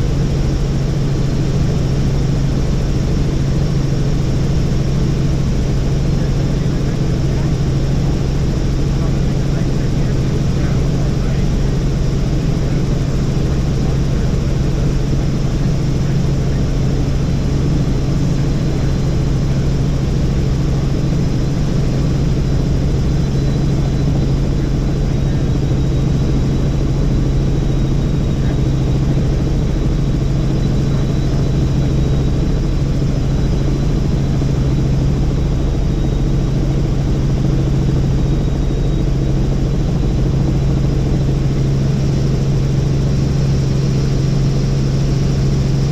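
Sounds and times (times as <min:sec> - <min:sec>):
helicopter rotors and engine droning: 0:00.0 - 0:45.9.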